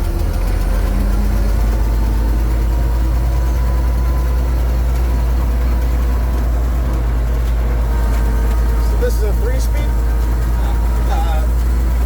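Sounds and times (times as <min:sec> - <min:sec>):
truck engine drone: 0:00.0 - 0:12.0.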